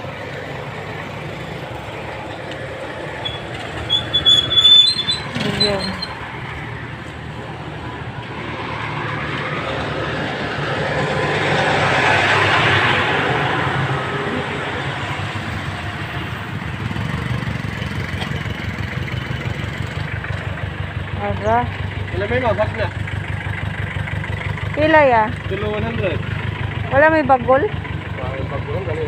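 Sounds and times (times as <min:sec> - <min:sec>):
traffic engines rumbling: 0:00.0 - 0:29.0
vehicle passing close: 0:00.0 - 0:29.0.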